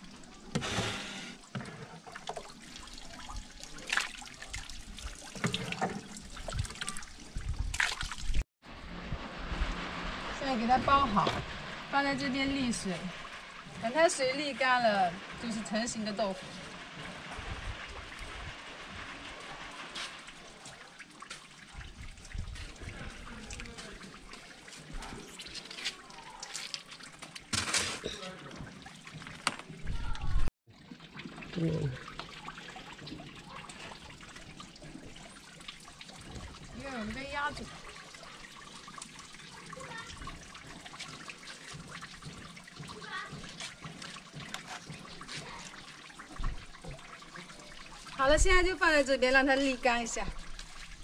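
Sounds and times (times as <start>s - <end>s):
water trickling and pouring: 0.0s - 51.0s.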